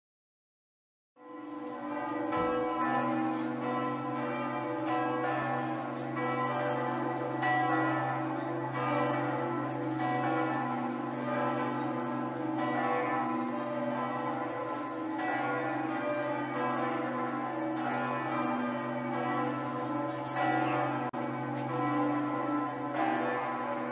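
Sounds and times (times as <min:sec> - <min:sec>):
church bells ringing: 0:01.2 - 0:23.9.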